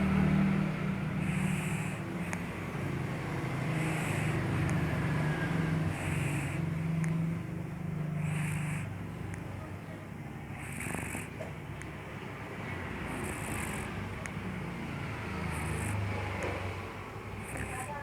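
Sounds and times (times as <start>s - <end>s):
cat snoring: 0.0s - 18.0s.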